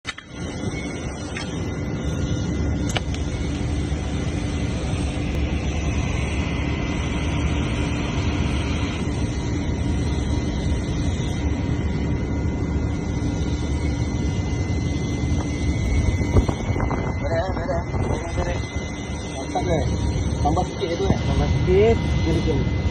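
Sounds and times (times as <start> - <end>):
machine hum and rumble: 0.0 - 22.9.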